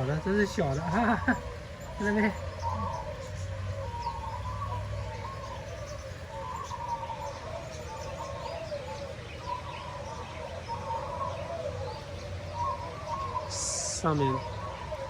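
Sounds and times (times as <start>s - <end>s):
chorus of bird calls: 0.0s - 15.0s.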